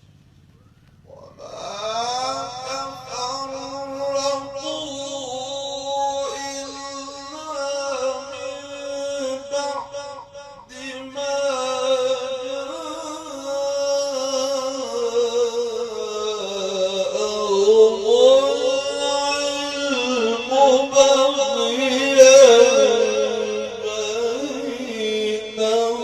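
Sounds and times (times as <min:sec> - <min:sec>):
man reciting melodically: 0:01.0 - 0:26.0.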